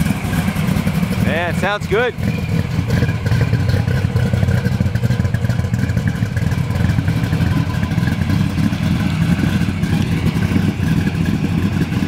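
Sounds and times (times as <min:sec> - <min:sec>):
engine idling through exhaust: 0:00.0 - 0:12.0.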